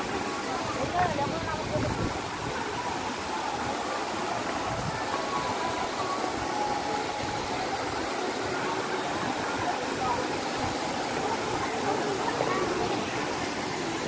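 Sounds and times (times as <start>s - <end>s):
distant crowd voices: 0.0s - 14.0s
waterfall rushing: 0.0s - 14.0s.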